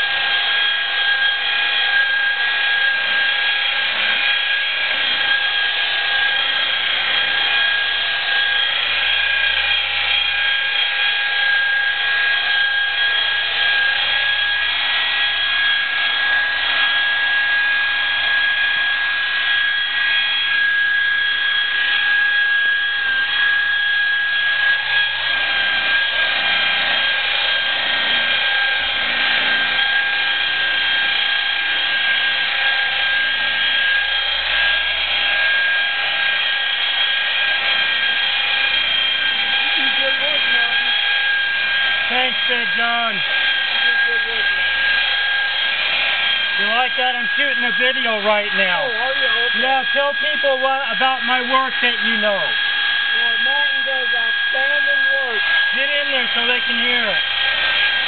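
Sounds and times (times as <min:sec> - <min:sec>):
rotary polisher motor whine: 0:00.0 - 0:58.0.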